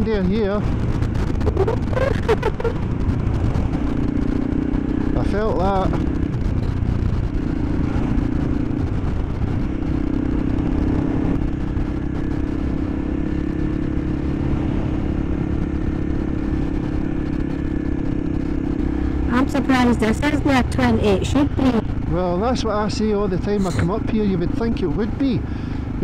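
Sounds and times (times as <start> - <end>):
motorcycle engine running: 0.0 - 26.0
wind rumbling on microphone: 0.0 - 26.0.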